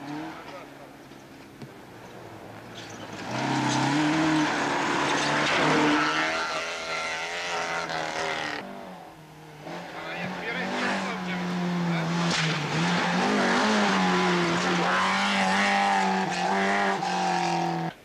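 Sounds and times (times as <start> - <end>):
rally car engine accelerating: 2.8 - 18.0.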